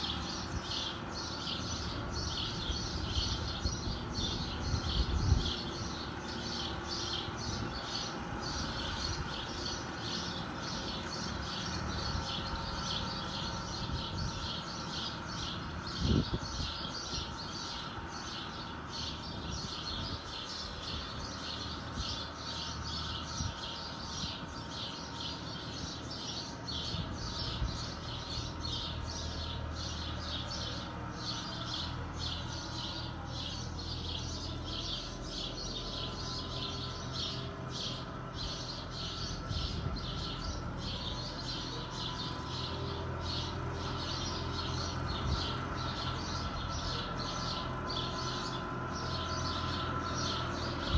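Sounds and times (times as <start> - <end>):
bird chirping: 0.0 - 50.9
distant tractor drone: 0.0 - 50.9.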